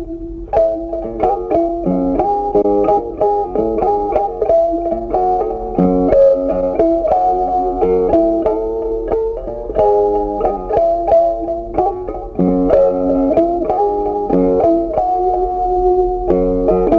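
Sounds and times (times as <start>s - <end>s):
plucked melody background music: 0.0s - 16.9s.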